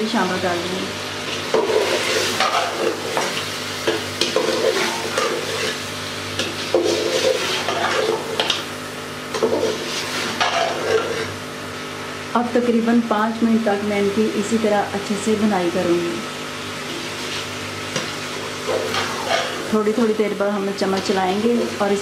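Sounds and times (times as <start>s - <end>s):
food sizzling in oil: 0.0s - 12.3s, 13.3s - 22.0s.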